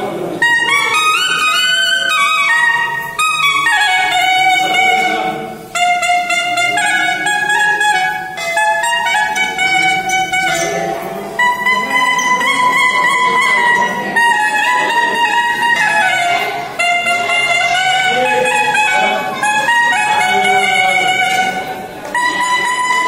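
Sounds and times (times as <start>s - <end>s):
solo clarinet melody: 0.0s - 23.0s.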